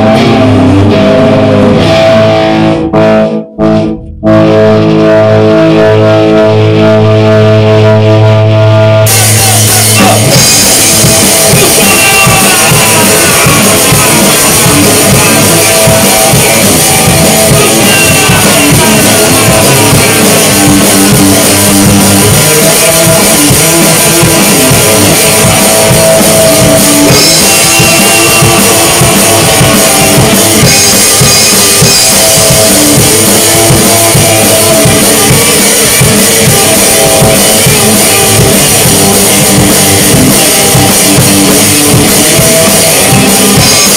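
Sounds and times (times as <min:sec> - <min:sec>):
rock band playing: 0:00.0 - 0:43.9
sliding guitar notes: 0:00.0 - 0:43.9.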